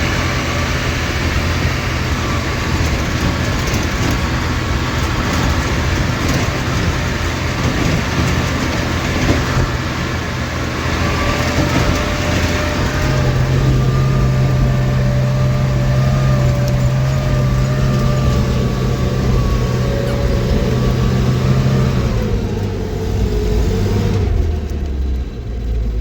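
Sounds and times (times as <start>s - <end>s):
vehicle engine under load: 0.0s - 26.0s.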